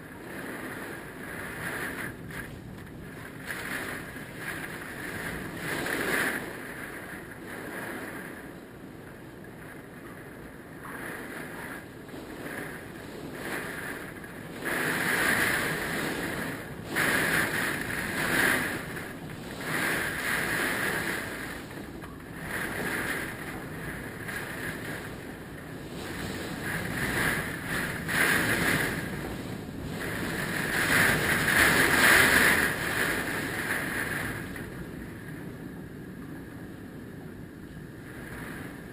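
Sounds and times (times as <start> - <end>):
hurricane wind gusting: 0.0 - 38.9.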